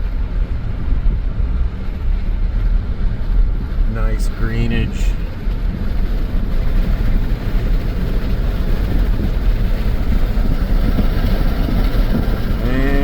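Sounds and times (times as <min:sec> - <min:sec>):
vehicle rumbling on dirt road: 0:00.0 - 0:13.0.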